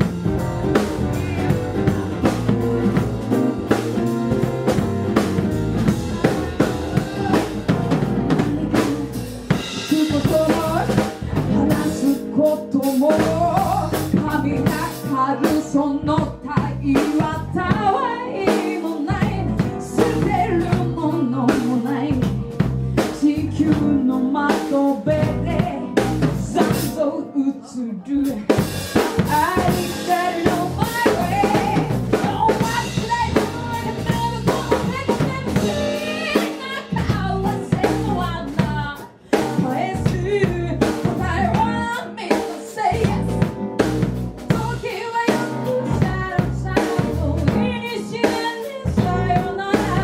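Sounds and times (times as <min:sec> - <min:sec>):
drum kit beat: 0:00.0 - 0:27.0, 0:28.2 - 0:50.0.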